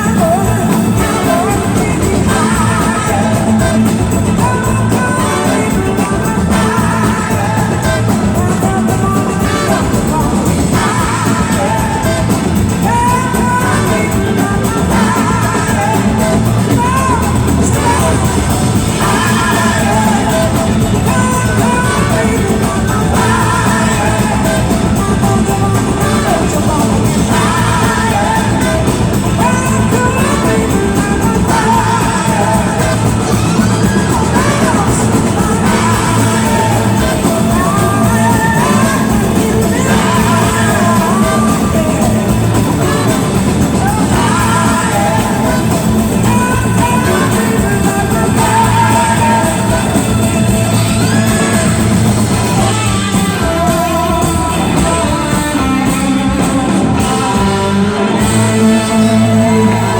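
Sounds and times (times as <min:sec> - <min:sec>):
rock band playing: 0:00.0 - 0:59.9
several voices singing: 0:00.0 - 0:59.9.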